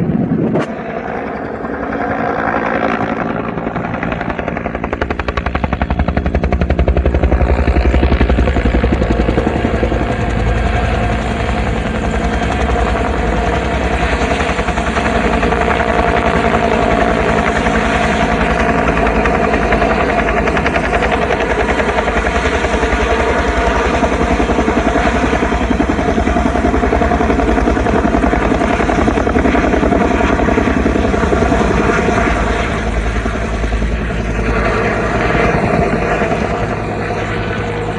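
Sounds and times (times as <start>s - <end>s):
helicopter engine drone: 0.0s - 37.9s
helicopter rotor chopping: 0.0s - 37.9s.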